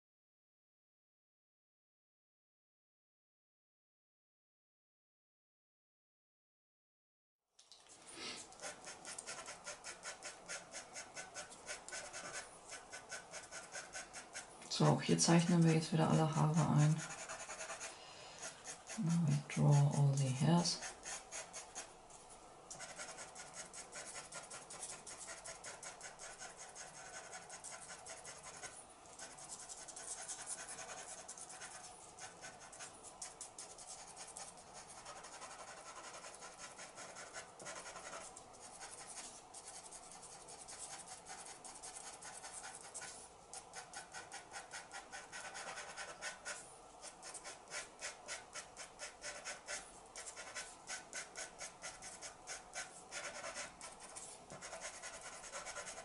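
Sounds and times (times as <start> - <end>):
pencil scratching on paper: 8.2 - 21.9, 22.7 - 56.0.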